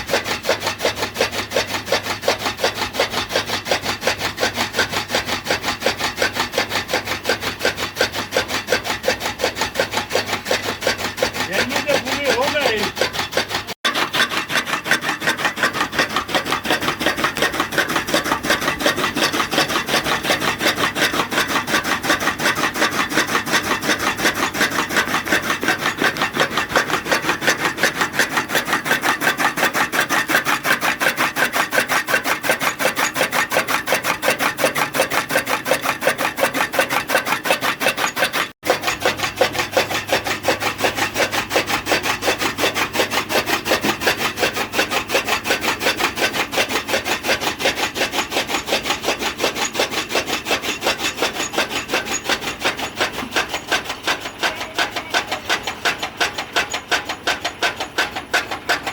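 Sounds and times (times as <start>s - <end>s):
rasping fodder chopping: 0.0s - 58.9s.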